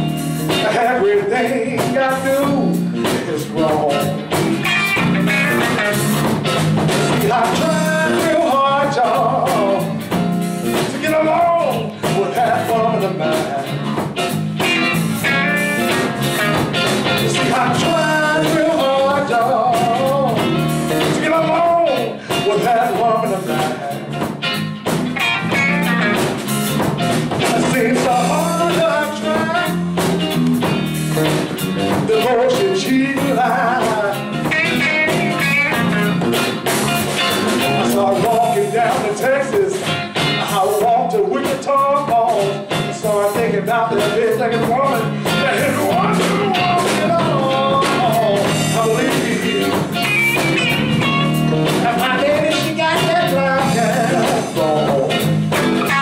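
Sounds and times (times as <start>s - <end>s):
bass guitar: 0.0s - 56.0s
drum kit steady beat: 0.0s - 56.0s
electric guitar with bent notes: 0.0s - 56.0s.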